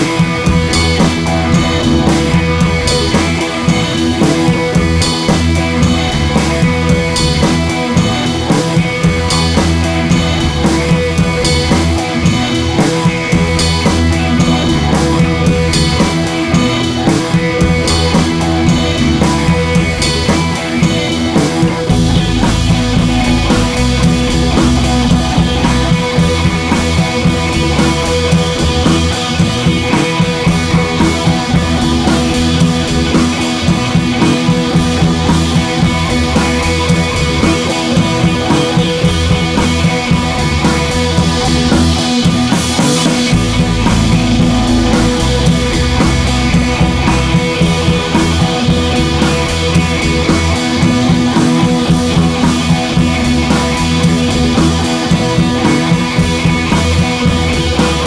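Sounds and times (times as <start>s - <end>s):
rock music with drums and guitar: 0.0s - 58.0s.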